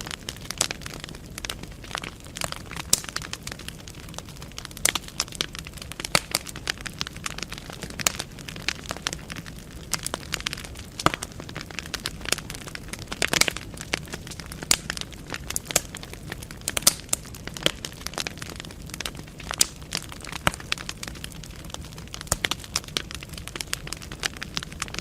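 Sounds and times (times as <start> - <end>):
firewood crackling and popping: 0.0 - 25.0
flames hissing softly: 0.0 - 25.0.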